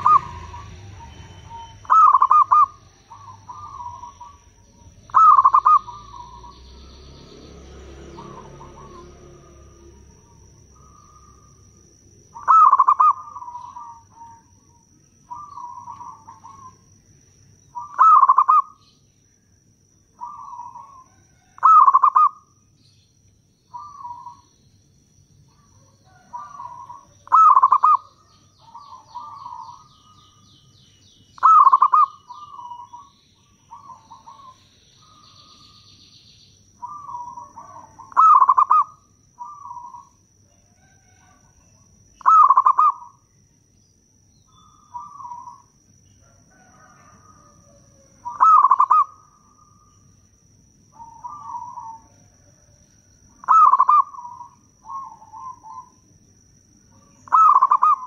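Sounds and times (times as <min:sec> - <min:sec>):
dove cooing: 0:00.0 - 0:07.1, 0:08.0 - 0:16.9, 0:17.7 - 0:18.9, 0:20.2 - 0:22.5, 0:23.7 - 0:24.5, 0:25.5 - 0:30.4, 0:31.4 - 0:35.9, 0:36.8 - 0:43.3, 0:44.5 - 0:49.9, 0:50.9 - 0:52.8, 0:53.4 - 0:56.0, 0:57.0 - 0:58.0
faint high chirping: 0:00.0 - 0:58.0.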